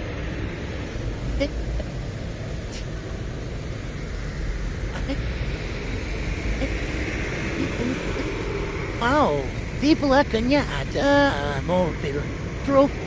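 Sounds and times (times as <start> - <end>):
engine rising in pitch: 0.0 - 13.0
traffic passing: 0.0 - 13.0.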